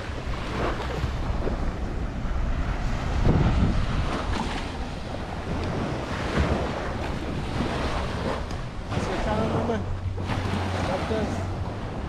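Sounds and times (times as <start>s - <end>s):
small waves washing onto sand: 0.0s - 12.0s
wind buffeting microphone: 0.0s - 12.0s.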